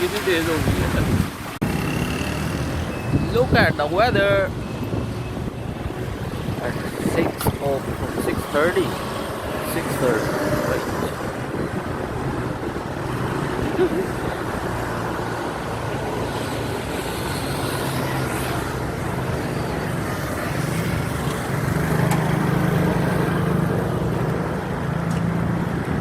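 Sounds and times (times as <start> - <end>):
road noise: 0.0 - 26.0
vehicle engine humming: 1.4 - 26.0.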